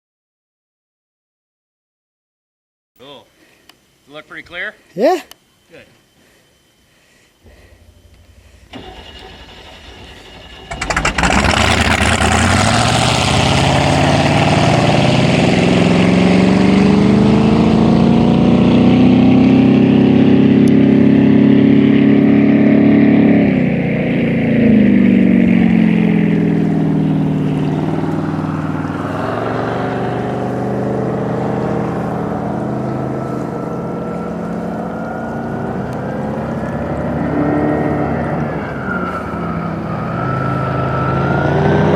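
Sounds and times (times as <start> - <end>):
boat engine revving: 7.4 - 41.9.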